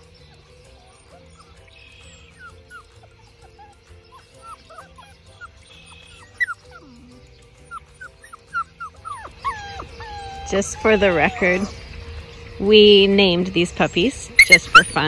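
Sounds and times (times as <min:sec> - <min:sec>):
puppies whimpering and yipping: 0:00.0 - 0:15.0.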